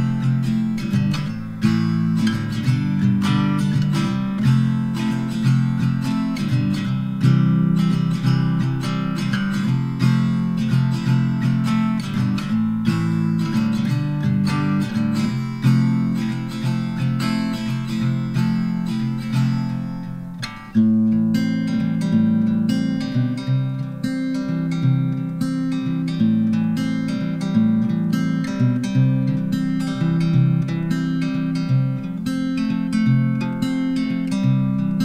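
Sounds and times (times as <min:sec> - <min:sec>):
acoustic guitar music: 0:00.0 - 0:35.0.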